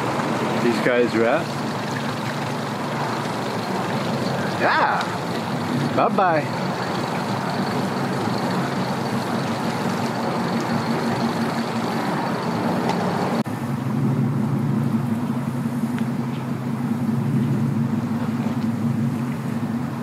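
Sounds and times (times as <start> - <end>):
outboard motor running: 0.0 - 20.0
vehicle engine idling: 0.0 - 20.0.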